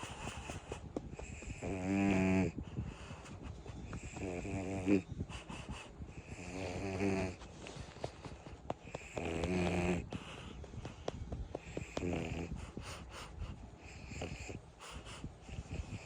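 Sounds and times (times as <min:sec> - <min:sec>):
dog snoring: 0:00.0 - 0:16.0.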